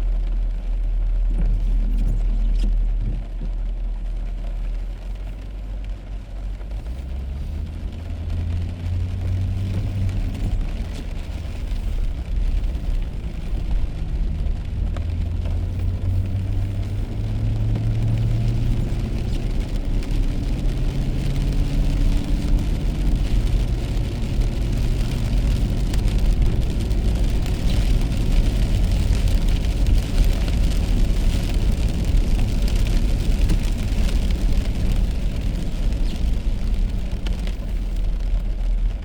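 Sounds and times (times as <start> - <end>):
low engine hum: 0.0 - 39.0
rain: 0.0 - 39.0
road rumble: 0.0 - 39.0.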